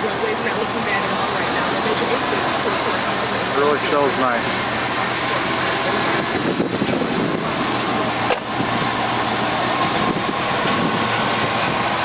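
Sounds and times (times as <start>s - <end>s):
pickup truck idling: 0.0s - 12.0s.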